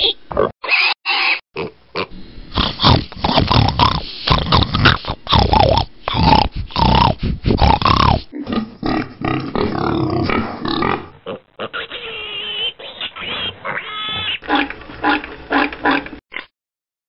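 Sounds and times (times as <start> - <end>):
pig grunting and oinking: 0.0 - 16.5.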